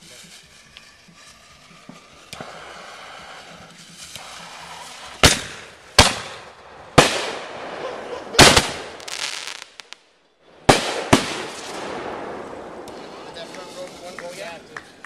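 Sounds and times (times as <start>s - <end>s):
fireworks bangs: 0.0s - 10.0s, 10.6s - 15.0s
fireworks crackling: 0.0s - 15.0s.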